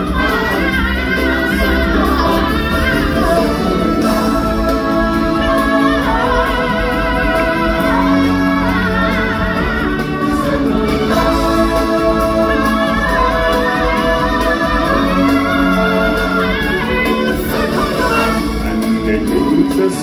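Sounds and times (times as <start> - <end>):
orchestral accompaniment: 0.0 - 20.0
singers holding long notes: 0.0 - 20.0.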